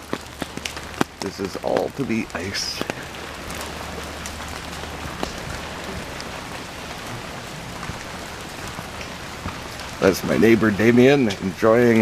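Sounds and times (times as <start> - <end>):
drops ticking on surfaces: 0.0 - 10.4
steady rain falling: 0.0 - 12.0.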